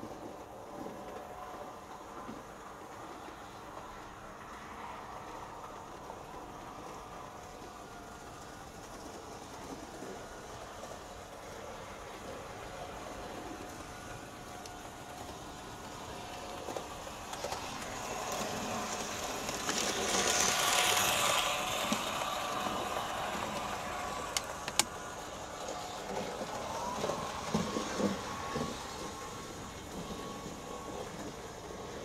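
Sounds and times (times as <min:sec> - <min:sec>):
model train running on rails: 0:00.0 - 0:32.0.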